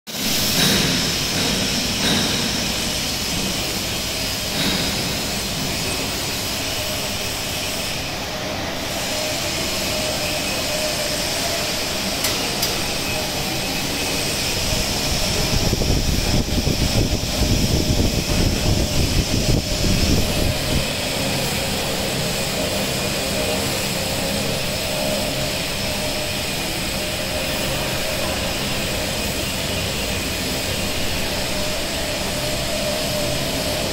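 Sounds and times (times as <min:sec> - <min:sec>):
printing press rollers whirring: 0:00.1 - 0:33.9.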